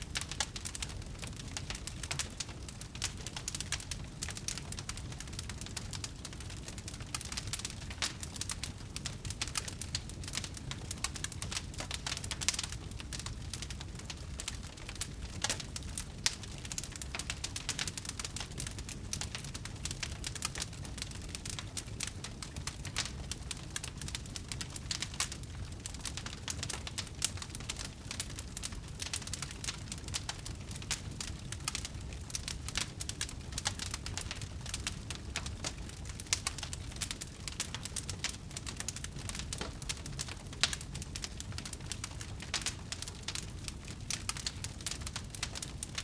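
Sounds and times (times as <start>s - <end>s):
low rumble of flames: 0.0s - 46.0s
wood fire crackling and popping: 0.0s - 46.0s.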